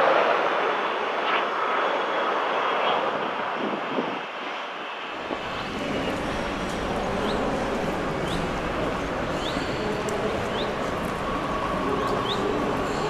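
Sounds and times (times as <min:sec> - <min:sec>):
jet aircraft roar: 0:00.0 - 0:13.0.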